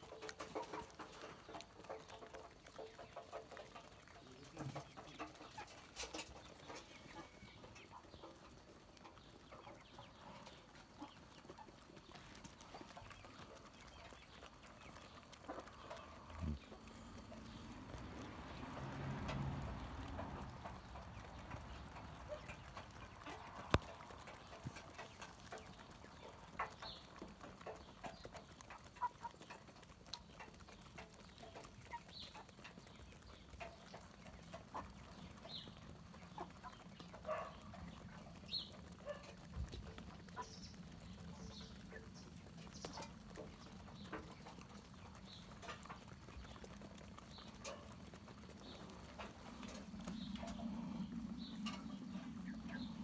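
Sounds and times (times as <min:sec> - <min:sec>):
hens clucking: 0:00.0 - 0:53.0
pecking ticks on ground: 0:00.0 - 0:53.0.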